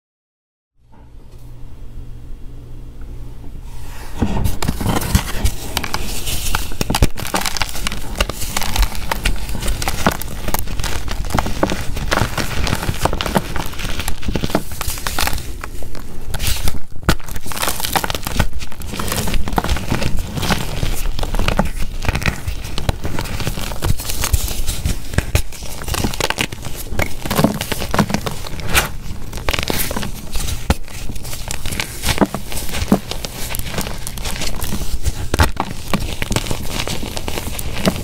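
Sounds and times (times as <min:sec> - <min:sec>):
hand crumbling chalk blocks: 0:04.2 - 0:38.0.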